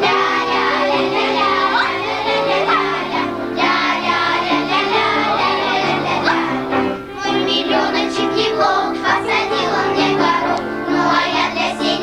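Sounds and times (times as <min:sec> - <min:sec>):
child singing: 0:00.0 - 0:12.0
music accompaniment: 0:00.0 - 0:12.0.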